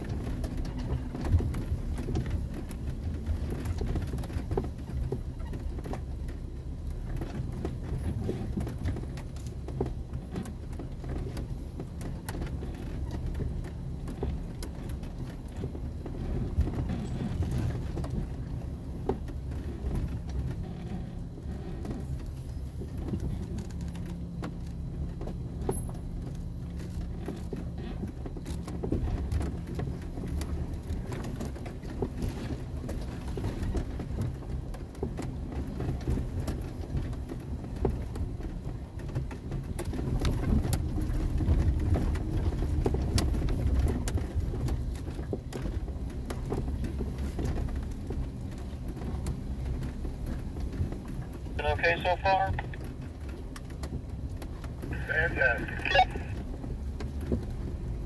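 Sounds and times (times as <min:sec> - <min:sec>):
vehicle engine running low: 0:00.0 - 0:58.0.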